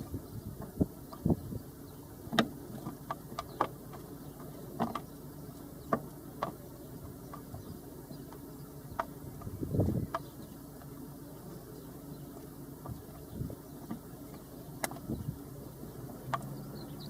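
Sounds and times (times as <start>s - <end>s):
woodpecker pecking: 2.1s - 17.0s.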